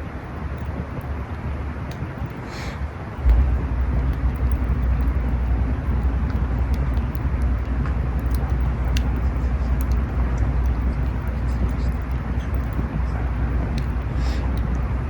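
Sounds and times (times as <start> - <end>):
fire low rumble: 0.0 - 15.0
campfire crackling and popping: 0.1 - 15.0.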